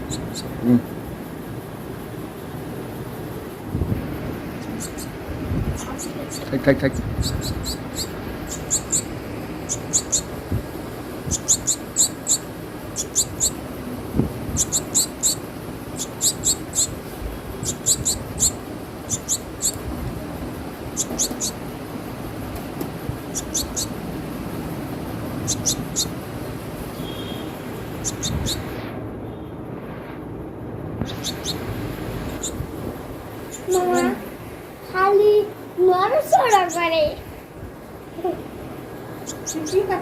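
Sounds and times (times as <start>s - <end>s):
small bird chirping: 0.0s - 2.3s, 3.0s - 29.5s, 31.0s - 34.3s, 36.2s - 37.2s, 38.1s - 40.0s
steady background noise: 0.0s - 40.0s.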